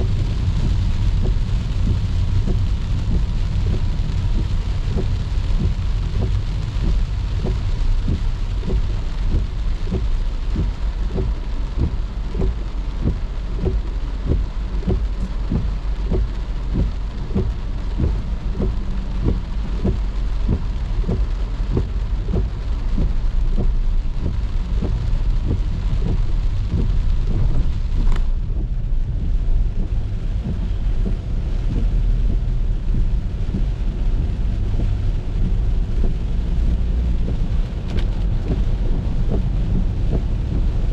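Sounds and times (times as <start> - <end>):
heavy rain on car: 0.0 - 40.9
low rumble: 0.0 - 40.9
raindrops knocking: 0.0 - 40.9.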